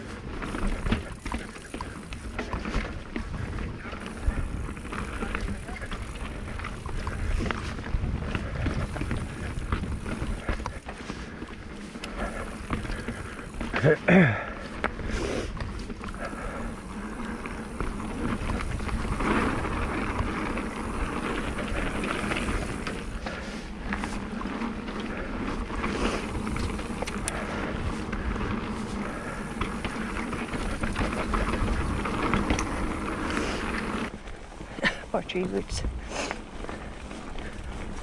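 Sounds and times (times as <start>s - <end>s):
bike clicks and rattles: 0.0s - 38.0s
tyres rushing on dirt and stones: 0.0s - 38.0s.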